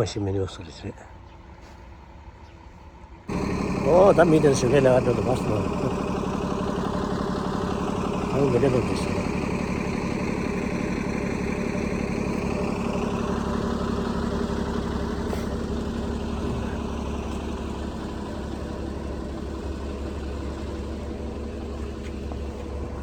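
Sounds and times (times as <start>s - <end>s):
engine idling: 0.7s - 23.0s.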